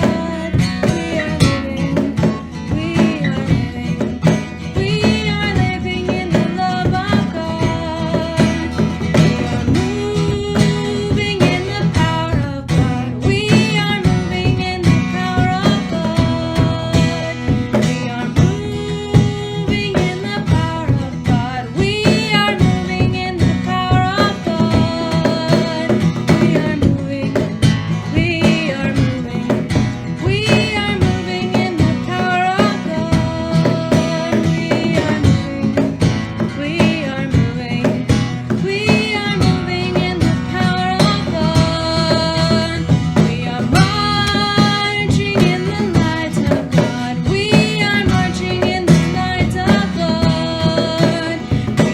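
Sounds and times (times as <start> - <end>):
person singing: 0.0 - 51.9
strummed acoustic guitar: 0.0 - 51.9.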